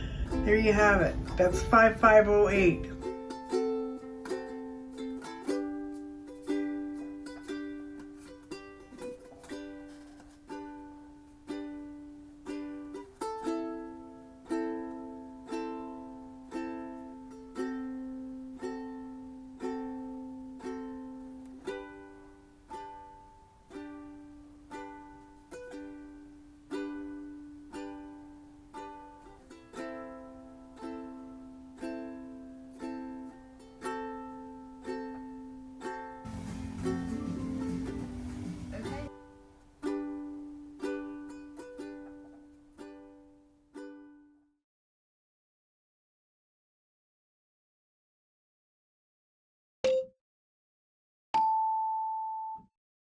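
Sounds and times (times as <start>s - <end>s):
plucked string instrument: 0.0s - 44.4s.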